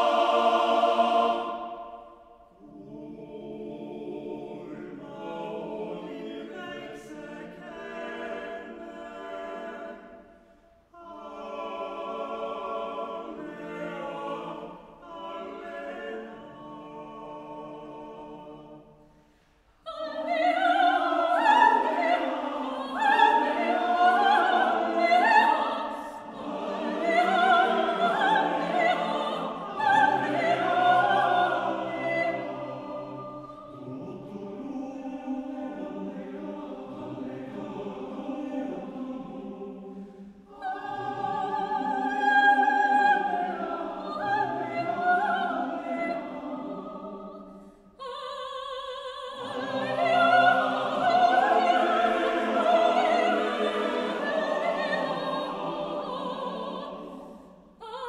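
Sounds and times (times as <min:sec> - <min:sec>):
male choir singing chords: 0:00.0 - 0:19.3, 0:20.2 - 0:47.7, 0:49.4 - 0:57.8.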